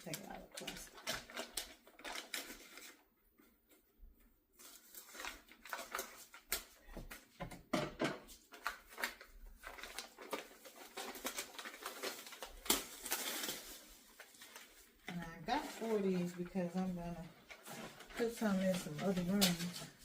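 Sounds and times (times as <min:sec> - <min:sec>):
plastic wrapping crinkling: 0:00.0 - 0:03.1, 0:04.6 - 0:07.4, 0:08.3 - 0:20.0.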